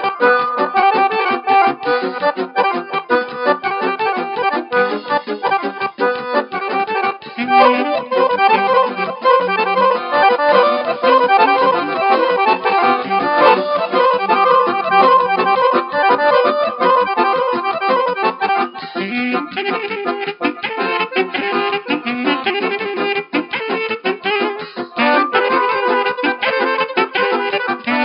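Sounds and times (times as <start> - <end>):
accordion playing folk tune: 0.0 - 28.0
live band: 0.0 - 28.0.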